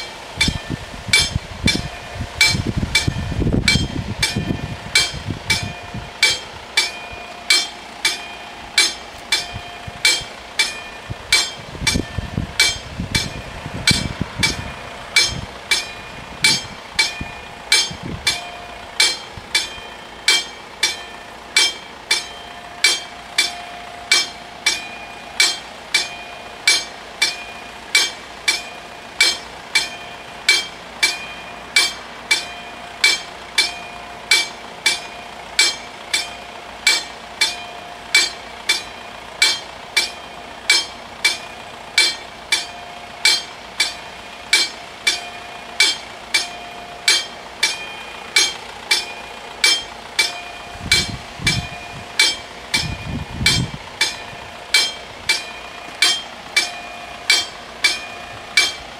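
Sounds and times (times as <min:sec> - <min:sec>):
low rumble: 0:00.0 - 0:32.3, 0:38.0 - 0:58.9
crossing warning bells ringing: 0:00.0 - 0:58.9.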